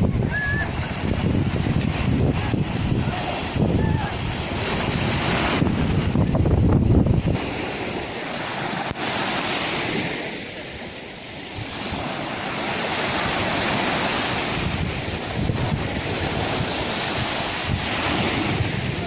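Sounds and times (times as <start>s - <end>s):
wind buffeting microphone: 0.0s - 10.2s, 11.4s - 19.0s
sea waves washing on shore: 0.0s - 19.0s.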